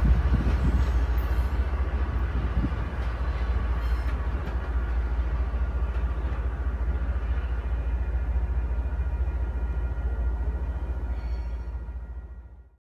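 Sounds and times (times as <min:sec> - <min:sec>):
diesel train rumbling: 0:00.0 - 0:12.8.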